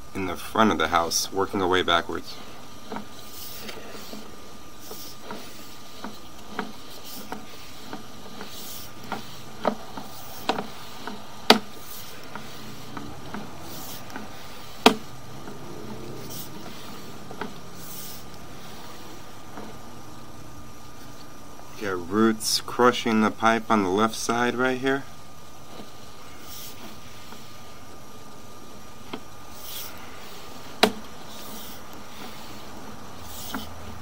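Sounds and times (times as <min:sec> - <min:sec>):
thin steady tone: 0:00.0 - 0:34.0
hissy rubbing: 0:00.8 - 0:22.9, 0:25.1 - 0:34.0.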